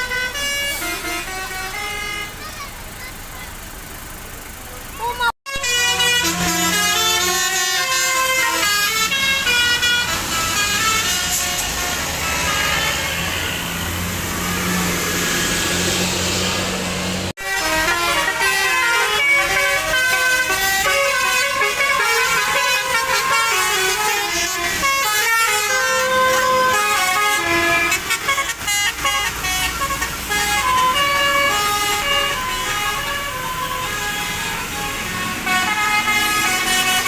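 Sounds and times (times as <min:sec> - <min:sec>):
multi-tone air horn melody: 0:00.0 - 0:02.5, 0:05.4 - 0:16.5, 0:17.4 - 0:37.0.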